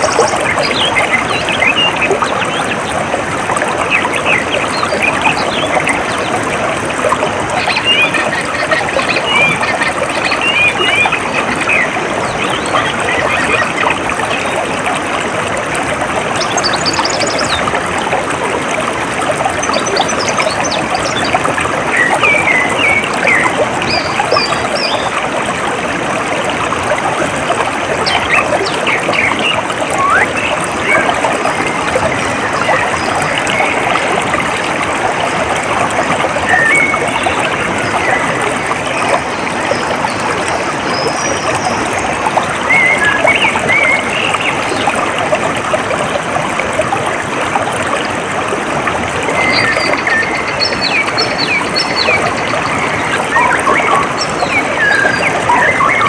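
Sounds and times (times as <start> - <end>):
water flowing in a stream: 0.0 - 56.0.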